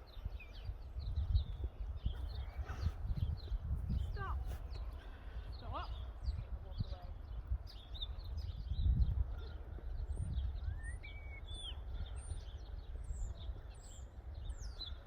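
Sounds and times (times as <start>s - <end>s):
small birds chirping: 0.0s - 15.0s
wind rumble on microphone: 0.0s - 15.0s.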